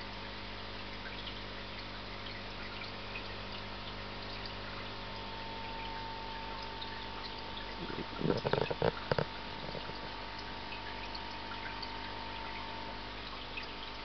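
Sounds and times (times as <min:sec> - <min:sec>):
faint steady hum: 0:00.0 - 0:14.0
trickling dripping water: 0:00.0 - 0:14.0.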